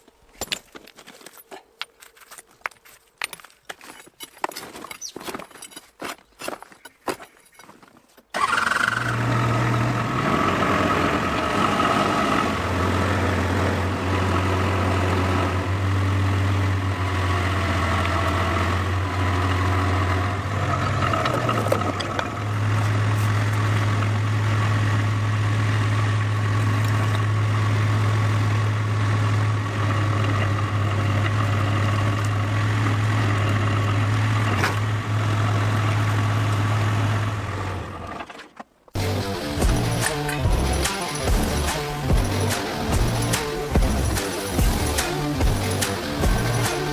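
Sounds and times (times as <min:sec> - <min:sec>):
large engine running: 0:08.4 - 0:38.3, 0:39.0 - 0:46.9.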